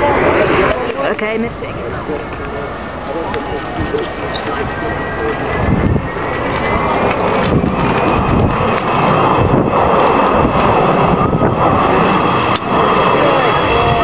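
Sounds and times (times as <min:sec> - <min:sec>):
jet aircraft roar: 0:00.0 - 0:14.0.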